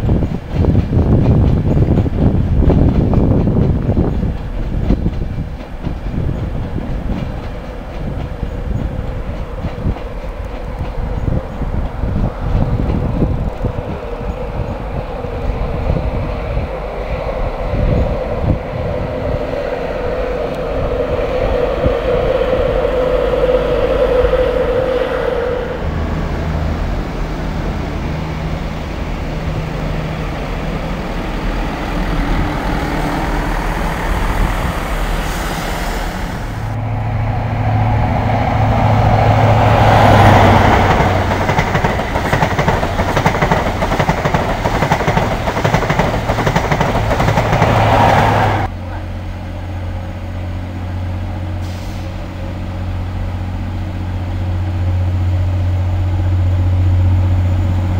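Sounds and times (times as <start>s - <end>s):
wheel-on-rail noise: 0.0s - 53.5s
diesel train engine and wheels: 0.0s - 57.9s
electric locomotive hum: 0.0s - 57.9s.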